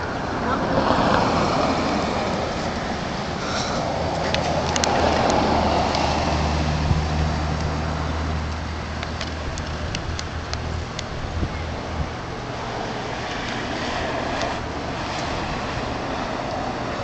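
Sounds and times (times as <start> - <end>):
traffic noise: 0.0 - 17.0
vehicle engine droning: 0.0 - 17.0.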